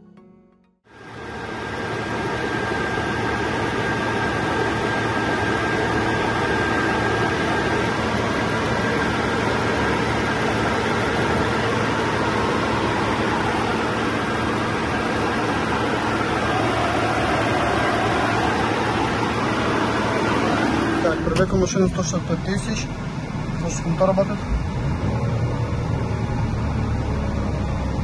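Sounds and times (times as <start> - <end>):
high whine: 0.0 - 28.0
car engine idling: 1.0 - 28.0.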